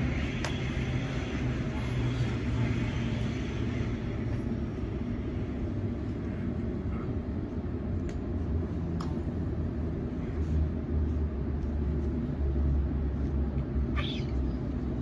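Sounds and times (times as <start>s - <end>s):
train rumbling inside carriage: 0.0s - 15.0s.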